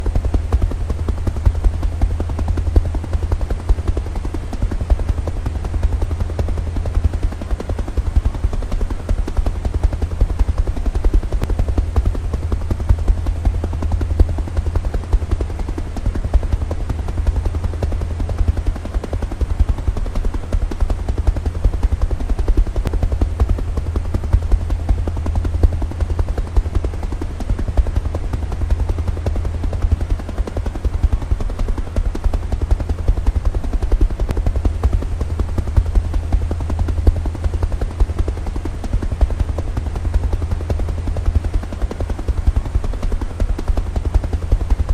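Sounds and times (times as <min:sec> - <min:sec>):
helicopter rotor blades chopping: 0:00.0 - 0:44.9.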